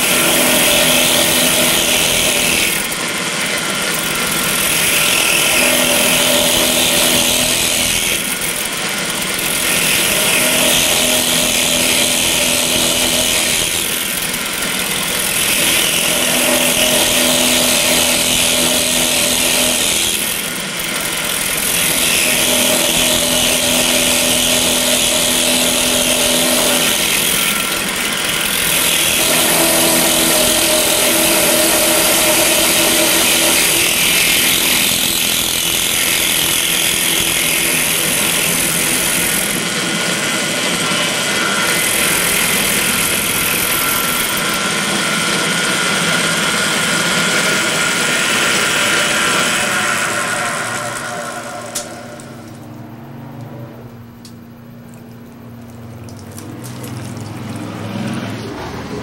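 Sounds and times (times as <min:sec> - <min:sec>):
drill press cutting glass: 0:00.0 - 0:52.7.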